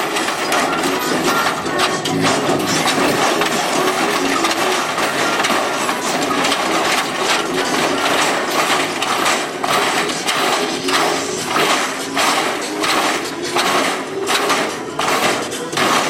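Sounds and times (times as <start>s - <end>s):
hydraulic suspension clattering: 0.0s - 16.0s.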